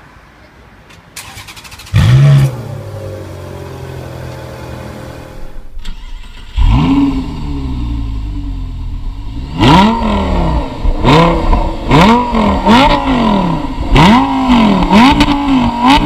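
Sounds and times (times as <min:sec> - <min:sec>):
car engine starting and idling: 0:01.0 - 0:16.0
second car engine starting: 0:01.2 - 0:16.0.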